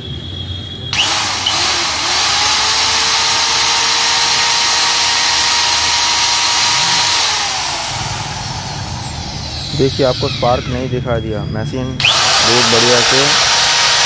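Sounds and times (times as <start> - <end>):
electric motor whine: 0.9 - 11.1, 12.0 - 14.0.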